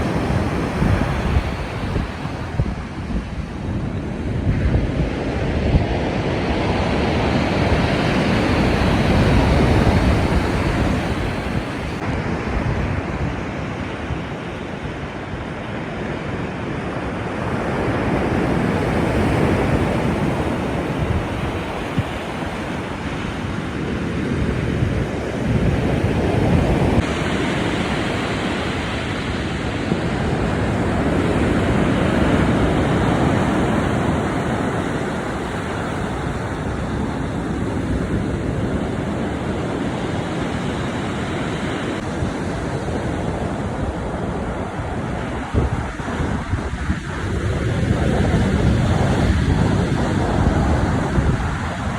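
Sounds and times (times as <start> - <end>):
surf washing on shore: 0.0 - 51.9
wind buffeting microphone: 0.0 - 51.9.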